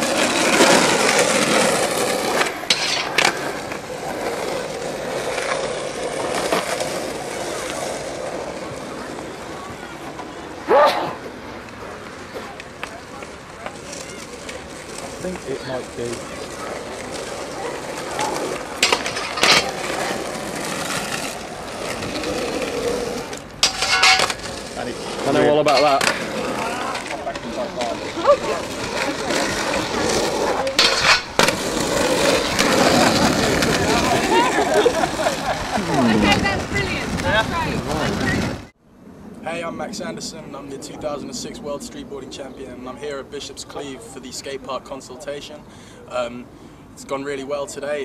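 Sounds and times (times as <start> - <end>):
skateboard wheels rolling: 0.0 - 44.7.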